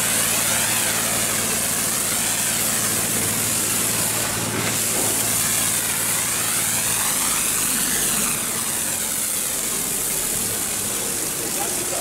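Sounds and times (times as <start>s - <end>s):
water jet spraying against wall: 0.0s - 12.0s.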